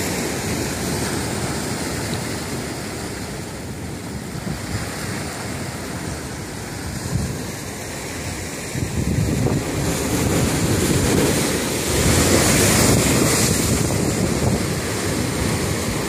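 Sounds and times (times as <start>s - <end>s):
waves breaking against rocks: 0.0s - 16.0s.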